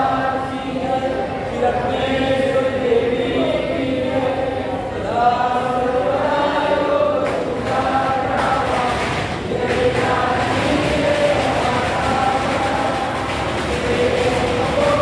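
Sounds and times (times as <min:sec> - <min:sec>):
group chanting in unison: 0:00.0 - 0:15.0.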